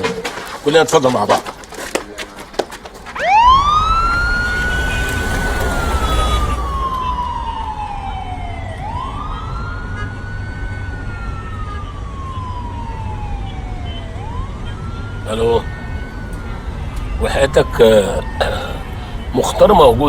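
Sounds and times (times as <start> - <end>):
police siren wailing: 3.1 - 20.0.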